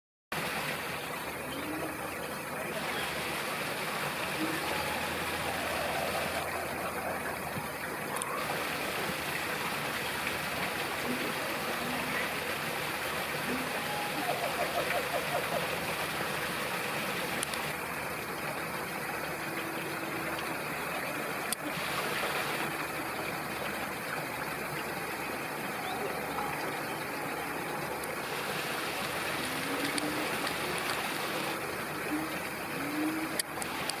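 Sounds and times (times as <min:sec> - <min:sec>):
distant voices: 0:01.0 - 0:34.0.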